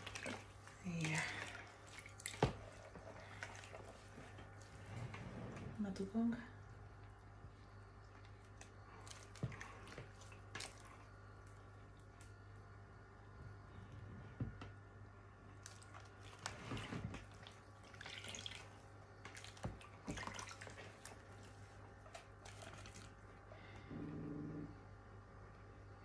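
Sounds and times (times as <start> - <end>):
faint steady low hum: 0.0 - 26.0.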